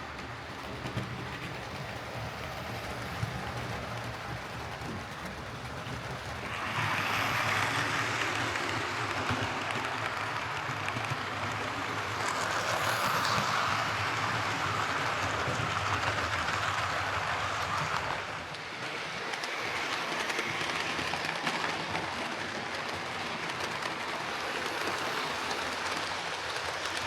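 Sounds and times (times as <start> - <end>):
model locomotive whirring on track: 0.0 - 27.0.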